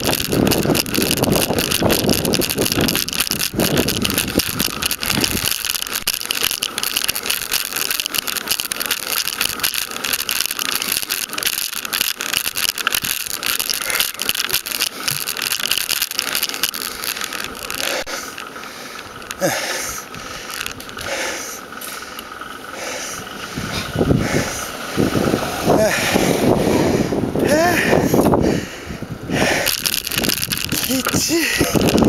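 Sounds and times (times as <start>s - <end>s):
scraping clatter with sharp ticks: 0.0s - 28.6s, 29.3s - 32.0s
bicycle mount rattling: 0.0s - 32.0s.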